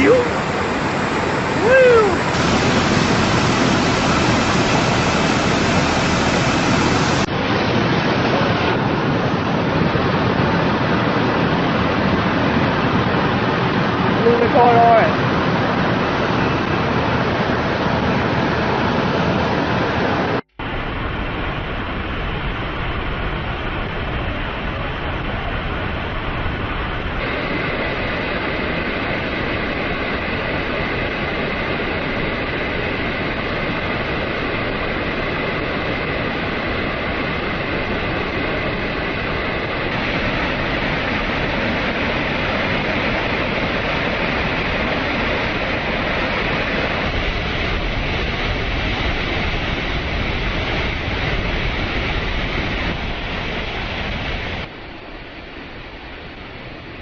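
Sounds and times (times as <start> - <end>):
floodwater roaring: 0.0 - 57.0.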